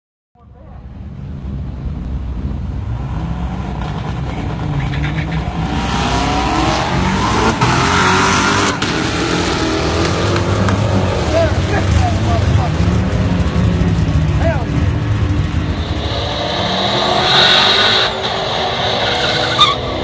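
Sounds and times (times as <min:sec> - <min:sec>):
car engine accelerating: 0:00.8 - 0:20.0
exhaust cracks: 0:01.2 - 0:19.9.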